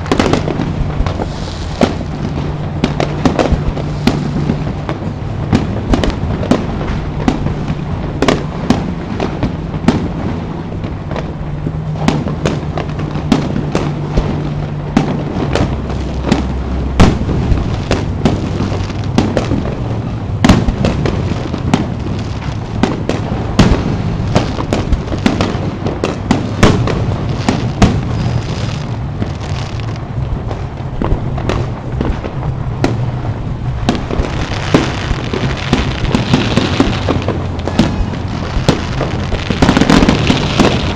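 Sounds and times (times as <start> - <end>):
fireworks bursting: 0.0 - 40.9
steady low tones: 0.0 - 40.9.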